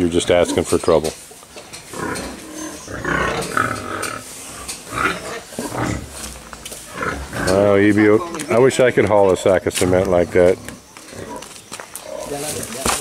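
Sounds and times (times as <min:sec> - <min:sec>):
pigs calling: 0:00.0 - 0:13.0.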